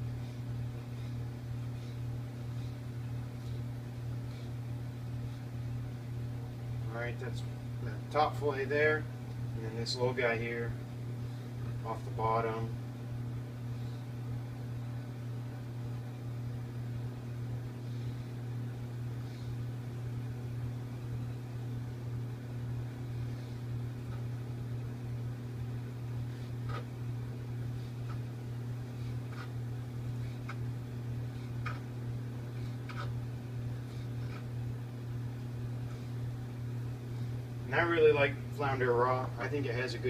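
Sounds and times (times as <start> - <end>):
appliance humming: 0.0 - 40.0.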